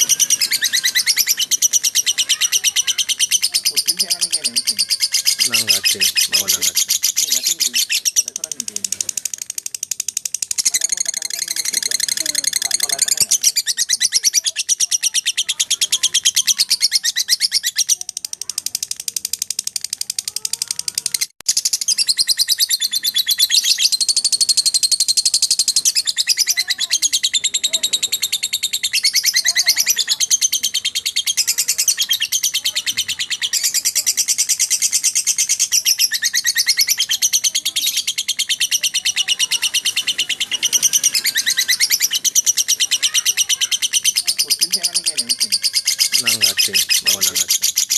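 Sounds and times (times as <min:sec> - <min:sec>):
lovebird chattering trill: 0:00.0 - 0:47.9.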